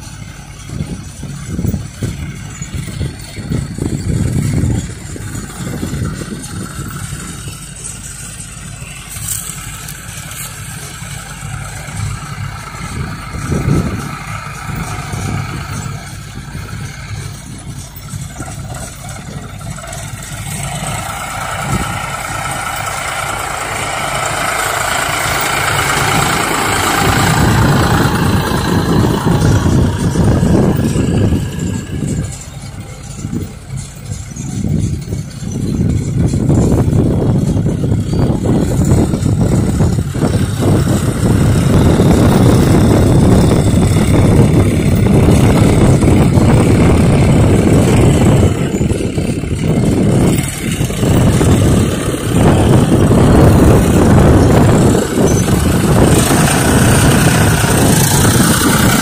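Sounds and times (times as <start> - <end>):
tractor diesel engines rumbling: 0.0 - 59.0.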